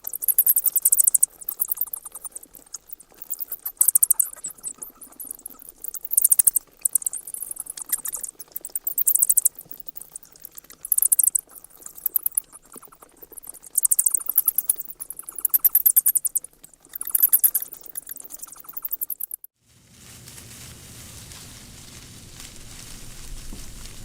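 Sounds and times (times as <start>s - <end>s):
bats chittering: 0.0s - 19.5s.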